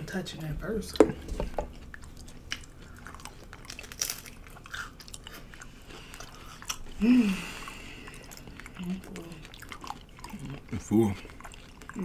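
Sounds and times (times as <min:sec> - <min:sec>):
chewing crunchy taco shells: 0:01.2 - 0:12.0.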